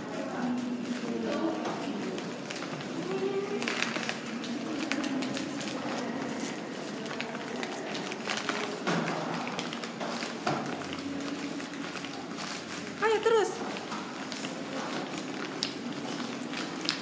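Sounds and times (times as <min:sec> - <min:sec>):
corridor background noise: 0:00.0 - 0:17.0
footsteps walking: 0:00.0 - 0:17.0.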